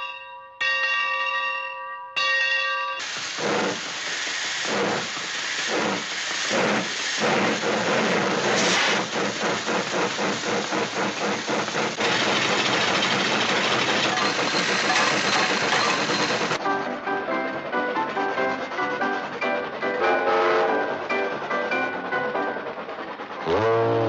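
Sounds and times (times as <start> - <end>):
steam hissing: 3.0 - 24.0
steam train chugging: 3.0 - 24.0.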